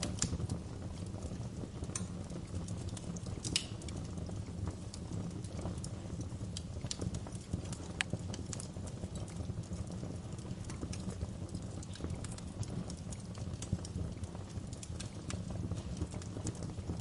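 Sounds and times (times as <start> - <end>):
fire pops and snaps: 0.0 - 17.0
wood fire rumbling: 0.0 - 17.0.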